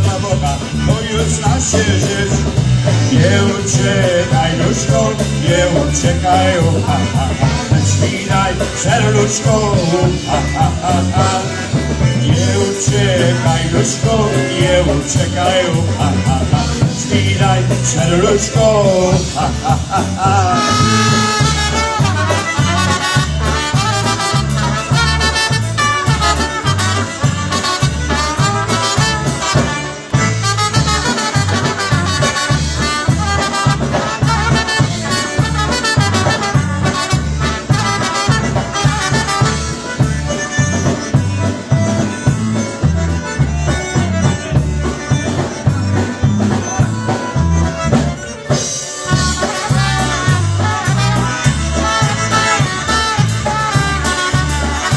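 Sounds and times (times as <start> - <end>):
steady bass beat: 0.0 - 48.3, 49.1 - 54.9
live polka band playing: 0.0 - 54.9.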